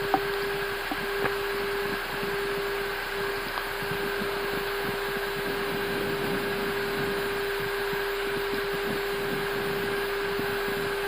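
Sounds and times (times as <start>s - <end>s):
air-conditioning and fans whooshing: 0.0s - 11.0s
constant hum: 0.0s - 11.0s
jet engines idling: 0.0s - 11.0s
wheels rumbling on pavement: 0.0s - 11.0s.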